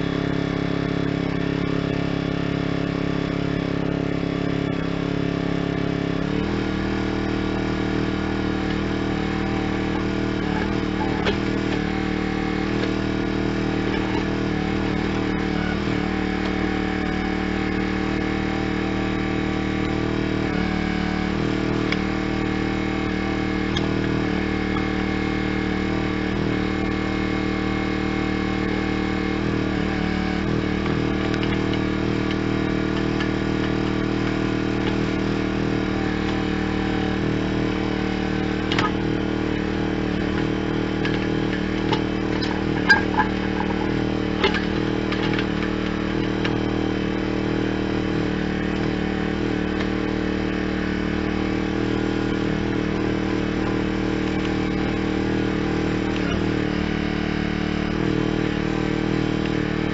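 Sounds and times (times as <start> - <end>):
tractor engine running: 0.0 - 27.2, 28.0 - 56.7.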